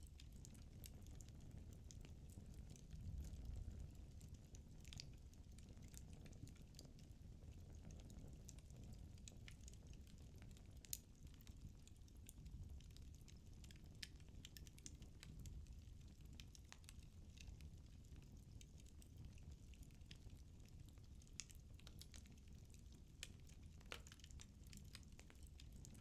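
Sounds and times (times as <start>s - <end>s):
firewood crackling and popping: 0.1s - 26.0s.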